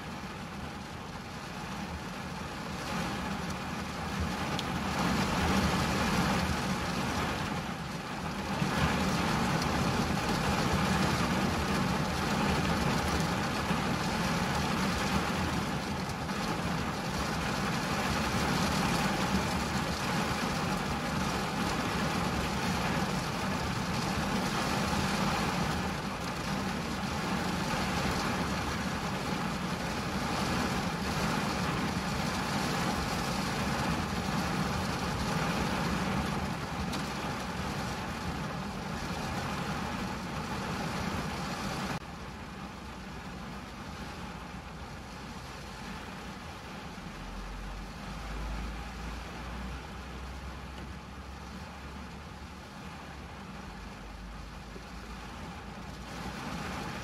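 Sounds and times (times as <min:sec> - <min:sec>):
rain on car windscreen: 0:00.0 - 0:57.0.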